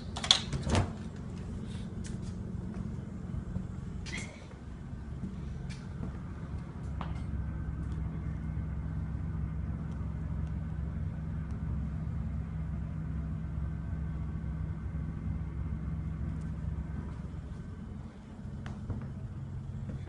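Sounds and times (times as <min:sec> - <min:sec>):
low rumbling hum: 0:00.0 - 0:20.0.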